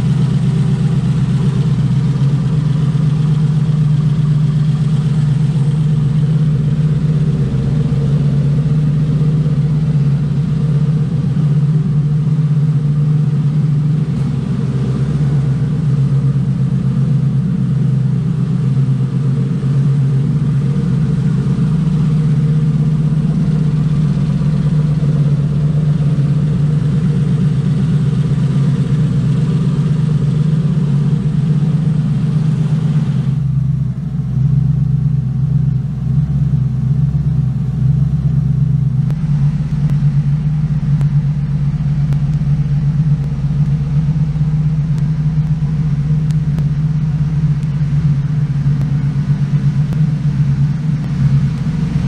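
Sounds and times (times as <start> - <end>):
car engine running steadily: 0.0 - 52.0.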